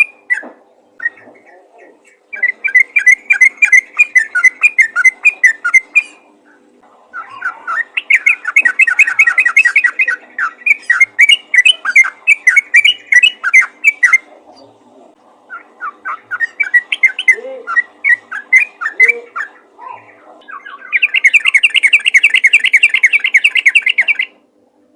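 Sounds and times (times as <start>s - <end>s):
bird chattering calls: 0.0s - 14.3s, 15.5s - 24.4s.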